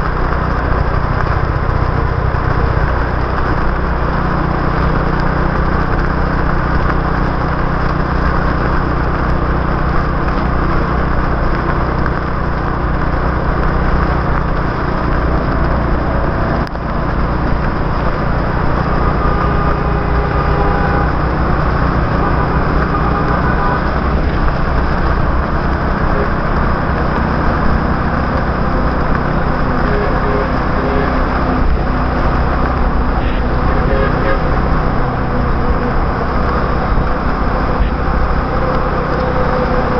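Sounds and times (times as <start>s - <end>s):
motorbike engine running: 0.0s - 39.9s
passing city traffic: 0.0s - 39.9s.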